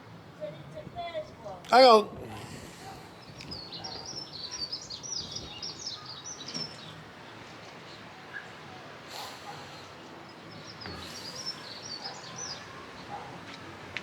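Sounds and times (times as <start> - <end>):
songbird chirping: 0.4 - 14.0.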